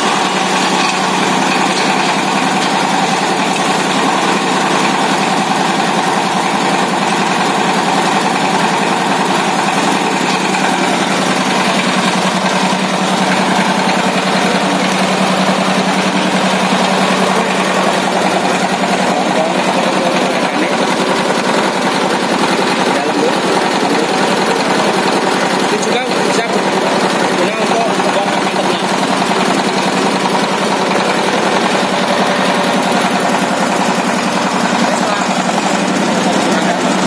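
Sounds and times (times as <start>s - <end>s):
chopper shredding leaves: 0.0s - 37.0s
diesel engine running: 0.0s - 37.0s.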